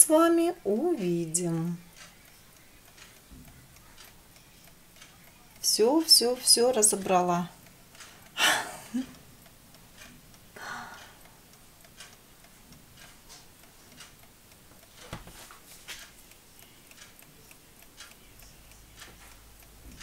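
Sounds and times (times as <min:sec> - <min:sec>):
clockwork ticking: 0:00.0 - 0:20.0.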